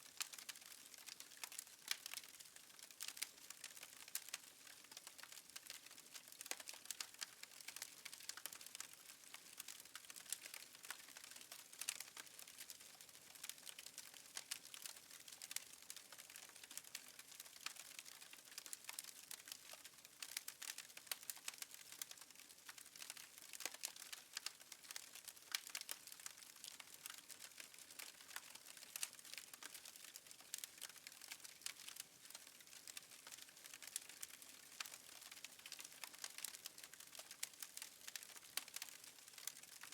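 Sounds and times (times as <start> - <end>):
fire crackling and popping: 0.2 - 39.9.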